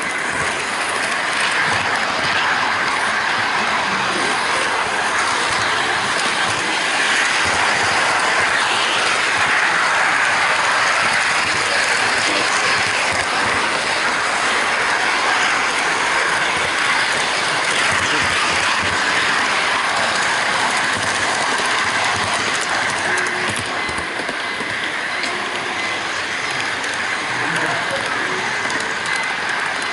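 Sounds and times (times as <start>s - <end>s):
model train wheels clattering: 0.0s - 29.9s.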